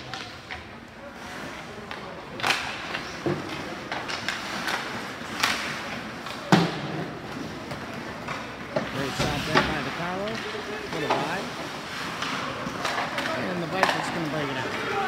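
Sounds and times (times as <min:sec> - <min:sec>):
hockey sticks and puck knocking: 0:01.8 - 0:15.0.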